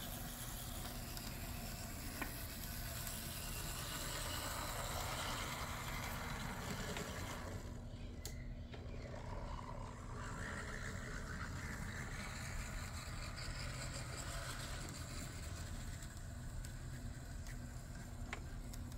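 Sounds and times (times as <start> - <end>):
faint electric motor whir: 0.0 - 18.9
model train wheels on rails: 0.0 - 18.9.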